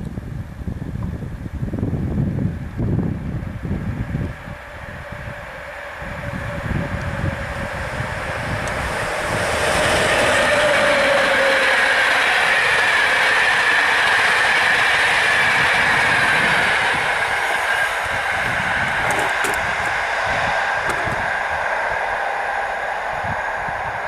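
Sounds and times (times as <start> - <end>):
electric locomotive whine: 0.0 - 24.0
train coaches rushing and clattering: 3.9 - 24.0.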